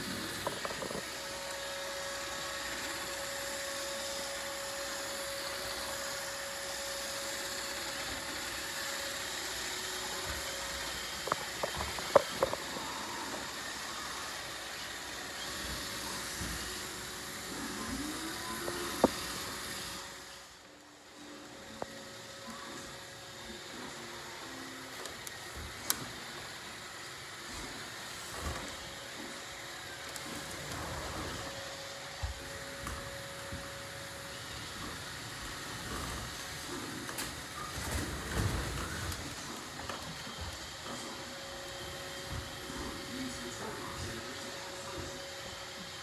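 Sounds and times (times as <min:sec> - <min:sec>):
robot vacuum whirring: 0:00.0 - 0:46.0.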